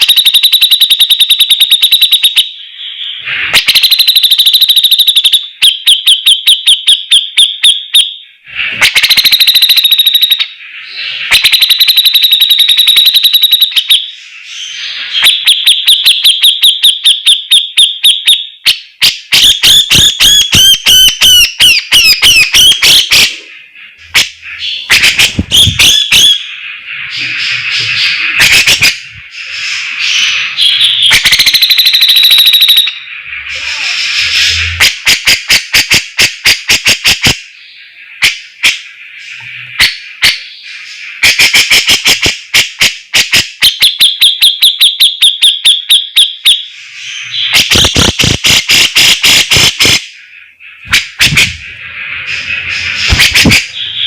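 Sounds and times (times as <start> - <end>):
bird chattering trills: 0.0 - 44.0, 46.7 - 54.0.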